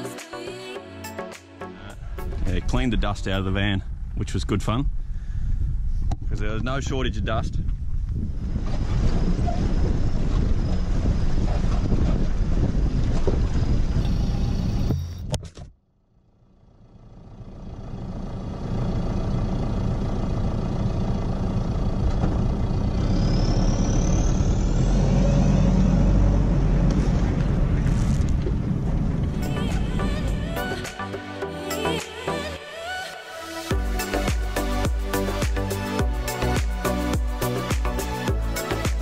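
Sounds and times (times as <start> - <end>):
vehicle engine and road noise: 1.9 - 32.1, 32.8 - 39.0.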